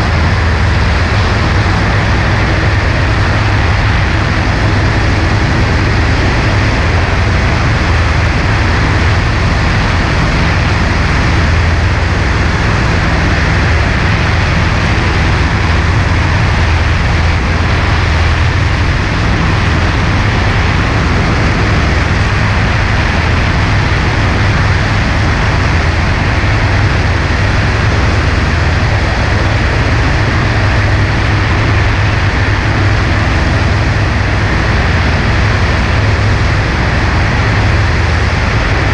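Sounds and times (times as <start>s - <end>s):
rush of air: 0.0s - 38.9s
small plane engine and propeller: 0.0s - 38.9s.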